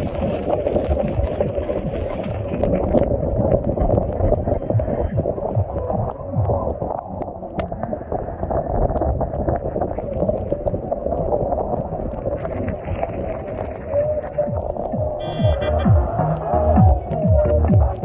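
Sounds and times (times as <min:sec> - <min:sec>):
heavy rain: 0:00.0 - 0:18.0
wind on microphone: 0:00.0 - 0:18.0.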